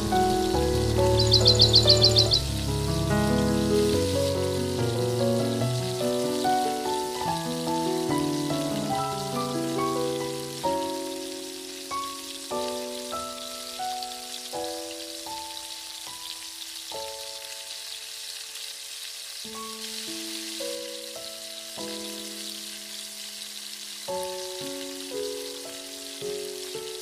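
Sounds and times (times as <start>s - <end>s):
slow background music: 0.0s - 27.0s
vegetables sizzling in oil: 0.0s - 27.0s.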